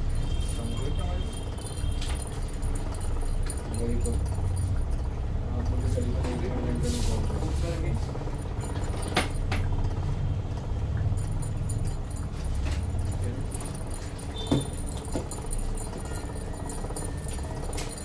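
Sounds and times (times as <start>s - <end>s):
metallic jingling and clinking: 0.0s - 10.0s, 11.0s - 18.0s.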